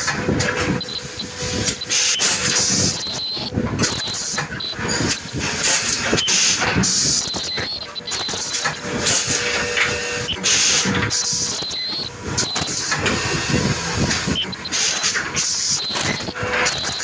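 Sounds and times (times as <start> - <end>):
welding machine hiss bursts: 0.7 - 17.0.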